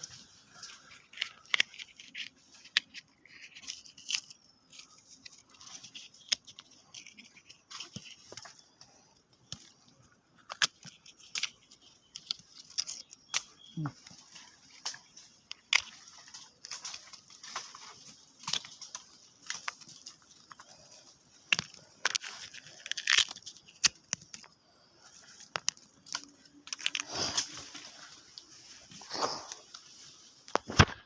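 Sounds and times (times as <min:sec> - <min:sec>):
walnuts clicking and cracking: 0:00.5 - 0:28.5.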